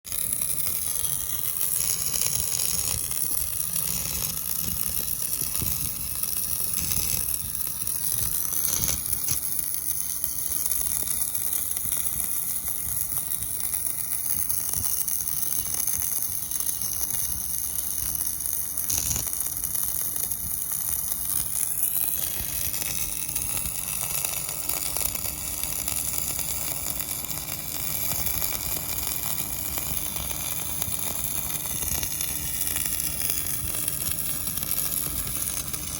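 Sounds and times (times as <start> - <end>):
welding arc crackling sizzle: 0.1 - 35.9.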